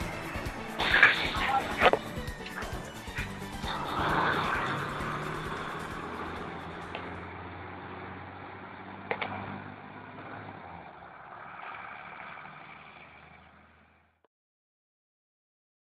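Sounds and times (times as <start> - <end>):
bus diesel engine running: 0.0 - 14.2.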